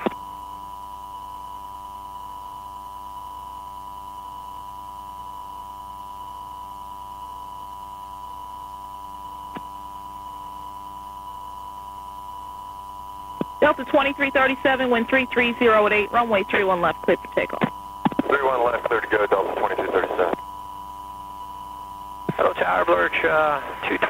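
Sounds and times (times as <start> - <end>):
electrical hum with high tone: 0.0 - 24.0.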